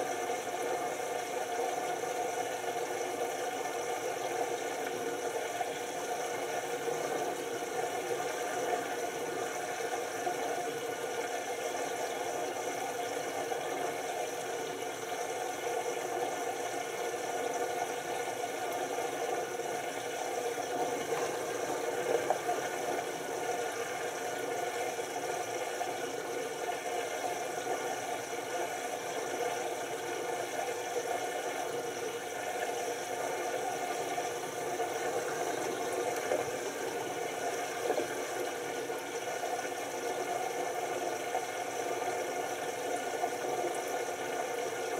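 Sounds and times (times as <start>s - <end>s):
washing machine drum whirring: 0.0s - 44.9s.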